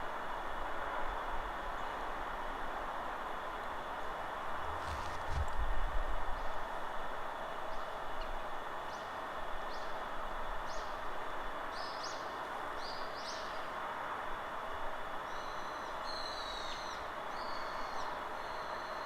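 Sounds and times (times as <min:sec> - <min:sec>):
forest wind: 0:00.0 - 0:19.0.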